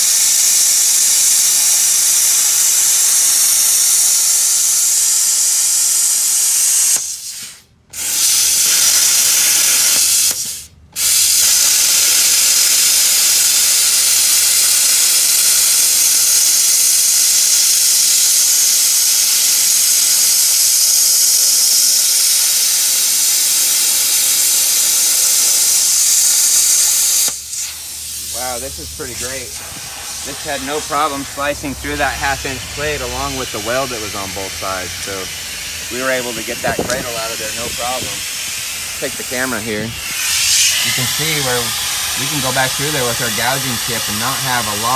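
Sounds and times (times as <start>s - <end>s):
plasma cutter hissing: 0.0s - 44.9s.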